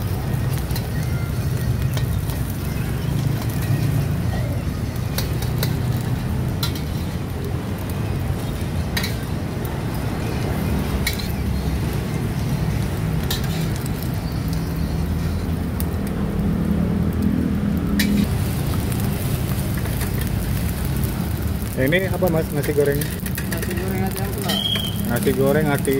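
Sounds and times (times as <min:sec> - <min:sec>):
rice frying in a wok: 0:00.0 - 0:25.9.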